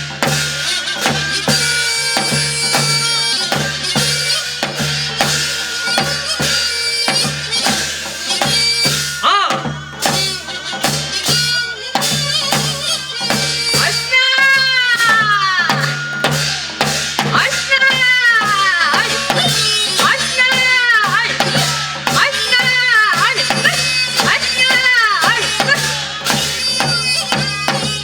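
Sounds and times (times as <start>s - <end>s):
drums striking: 0.0s - 28.0s
wind instrument melody: 0.0s - 28.0s.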